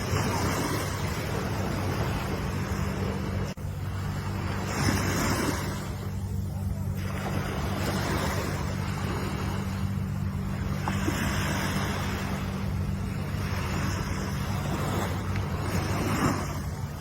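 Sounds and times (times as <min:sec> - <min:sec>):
low hum: 0:00.0 - 0:17.0
ocean waves washing onto shore: 0:00.0 - 0:17.0.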